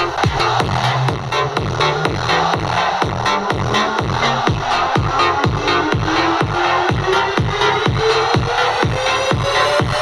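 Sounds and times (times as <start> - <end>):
kick drum: 0.0 - 10.0.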